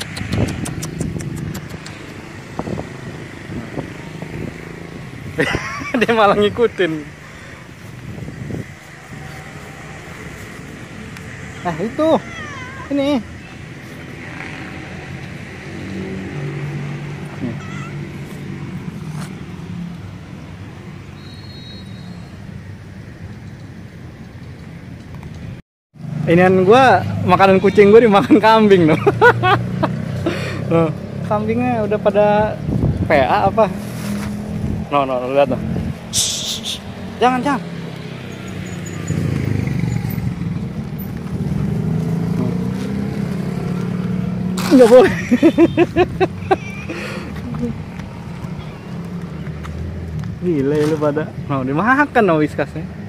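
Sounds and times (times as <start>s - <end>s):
traffic rumble: 0.0s - 53.0s.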